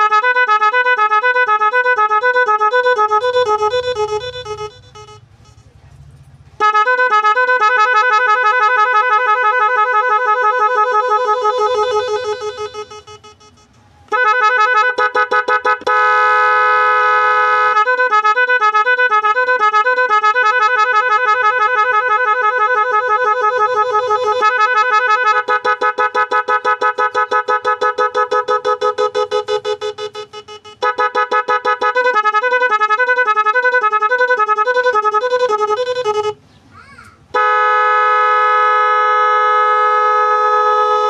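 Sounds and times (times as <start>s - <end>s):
electric pressure horn blasts: 0.0s - 5.6s, 6.6s - 36.4s, 37.3s - 41.0s.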